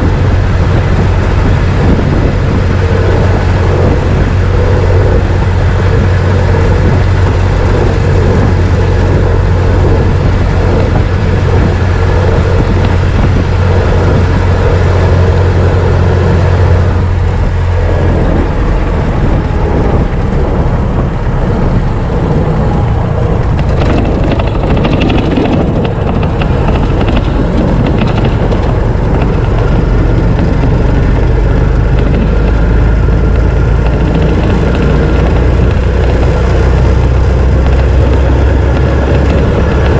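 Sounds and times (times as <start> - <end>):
car engine running: 0.0 - 39.9
rattling: 0.0 - 39.9.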